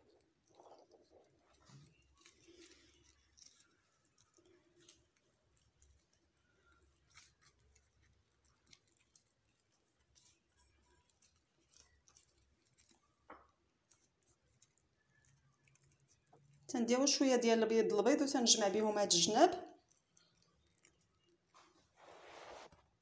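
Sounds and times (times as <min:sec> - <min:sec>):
pastry sheet crackling: 0:00.0 - 0:23.0.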